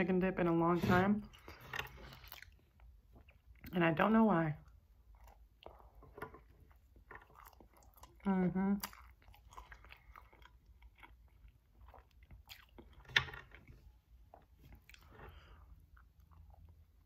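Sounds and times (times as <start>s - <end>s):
close-up chewing: 1.2s - 3.8s, 4.6s - 17.0s.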